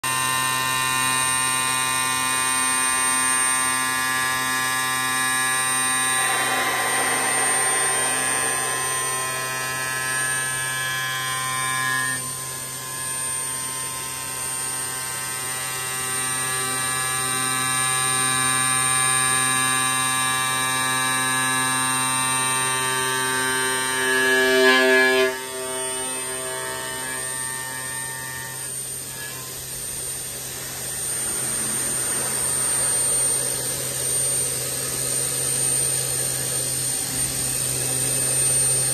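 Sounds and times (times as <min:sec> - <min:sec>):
machine motor whine: 0:00.1 - 0:38.9.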